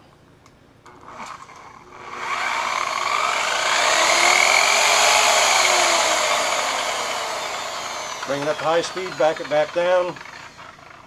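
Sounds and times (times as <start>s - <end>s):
electric polisher motor whine: 2.0s - 11.0s.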